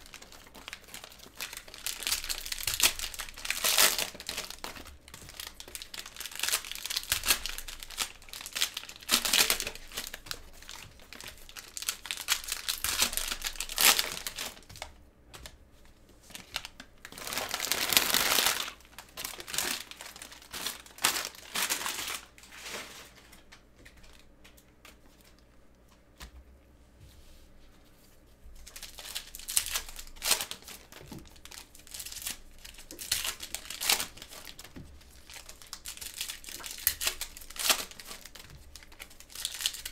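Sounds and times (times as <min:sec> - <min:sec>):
cellophane wrappers crinkling and tearing: 0:00.0 - 0:14.9, 0:16.2 - 0:25.4, 0:28.6 - 0:39.9.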